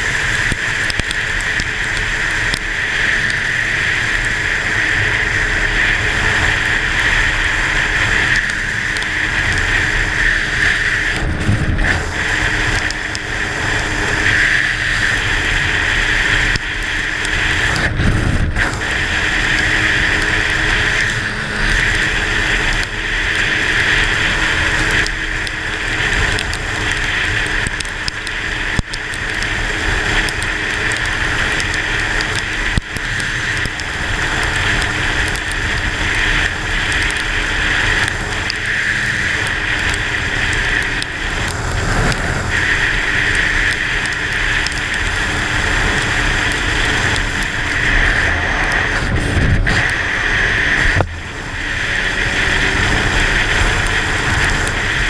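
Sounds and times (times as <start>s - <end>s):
tyres hissing on wet road: 0.0s - 55.0s
wind rushing on microphone: 0.0s - 55.0s.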